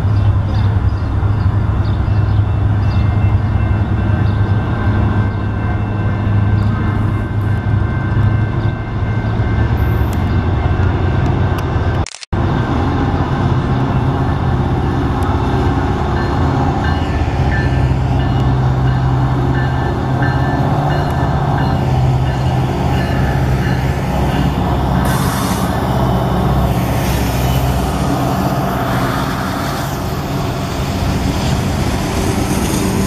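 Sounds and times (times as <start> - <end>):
diesel locomotive engine drone: 0.0 - 33.0
rail noise: 0.0 - 33.0.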